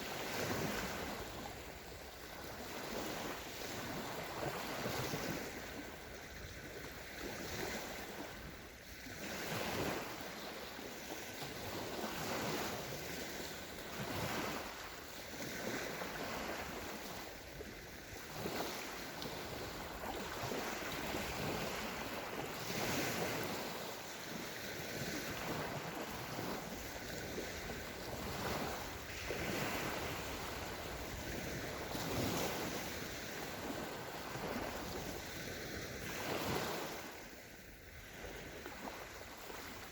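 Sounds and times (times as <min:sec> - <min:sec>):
waves washing on sandy shore: 0:00.0 - 0:39.9.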